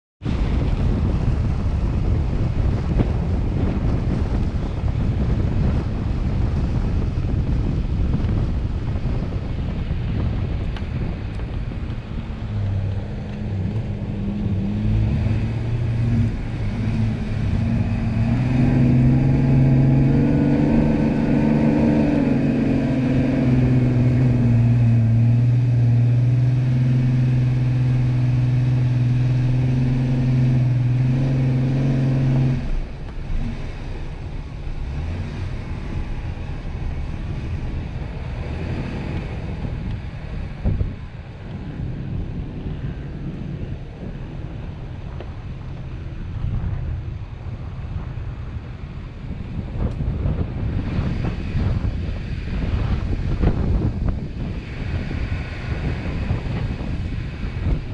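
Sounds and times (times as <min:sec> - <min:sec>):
off-road vehicle engine straining: 0:00.2 - 0:57.9.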